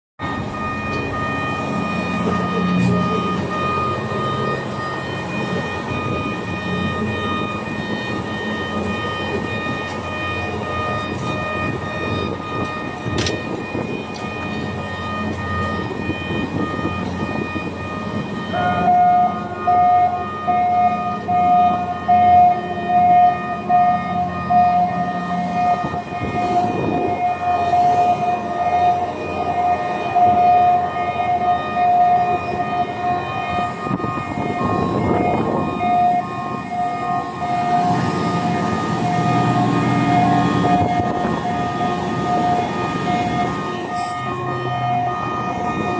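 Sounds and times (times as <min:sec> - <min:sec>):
crane machinery noise: 0:00.2 - 0:45.9
crane warning alarm tone: 0:00.2 - 0:45.9.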